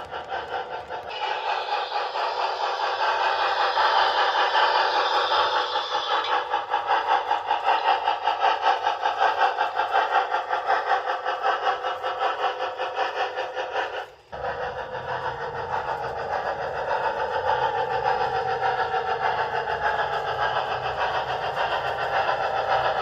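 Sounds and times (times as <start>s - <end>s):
model train clattering on track: 0.0s - 23.0s.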